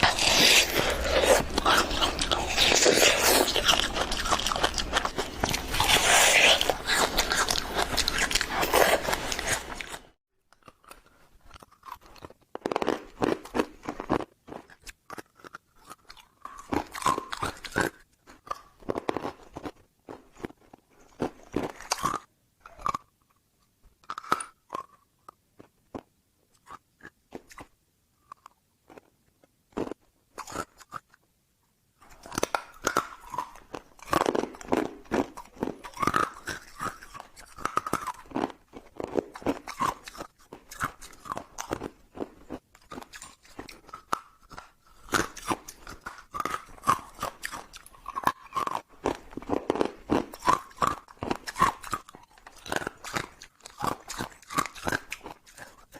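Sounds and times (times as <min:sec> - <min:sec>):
ice crunching and chewing: 0:00.0 - 0:23.3, 0:24.0 - 0:31.2, 0:32.0 - 0:55.9.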